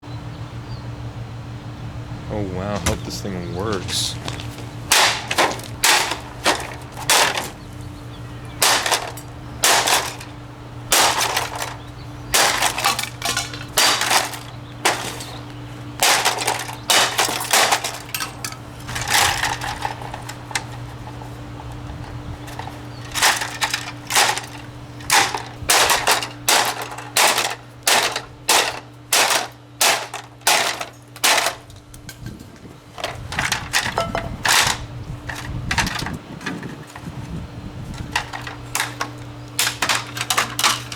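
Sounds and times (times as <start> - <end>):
steady low hum: 0.0 - 40.9
box fan being smashed: 3.7 - 40.9.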